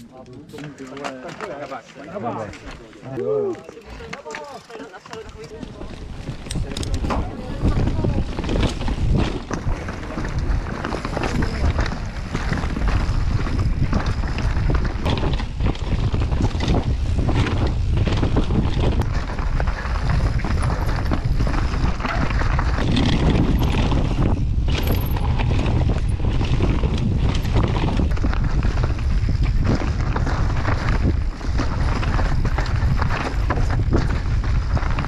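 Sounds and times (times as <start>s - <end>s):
bike knocks and rattles: 4.0s - 35.0s
wind buffeting microphone: 5.5s - 35.0s.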